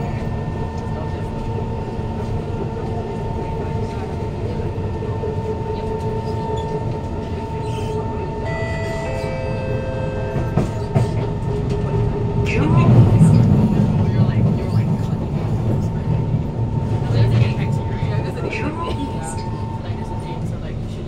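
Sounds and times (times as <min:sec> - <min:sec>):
wheels rumbling on track: 0:00.0 - 0:21.0.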